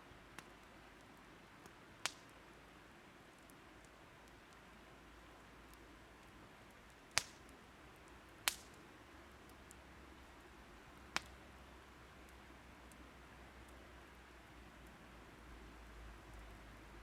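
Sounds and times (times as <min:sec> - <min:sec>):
faint steady hiss: 0:00.0 - 0:17.0
firewood crackling: 0:00.0 - 0:17.0.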